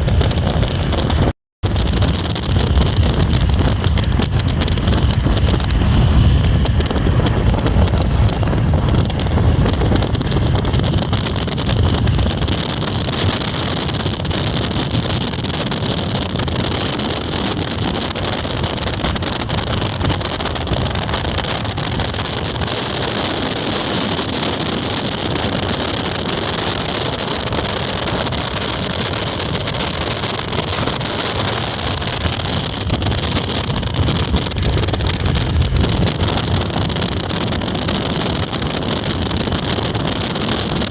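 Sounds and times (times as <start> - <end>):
heavy low rumble: 0.0 - 40.9
wind buffeting microphone: 0.0 - 40.9.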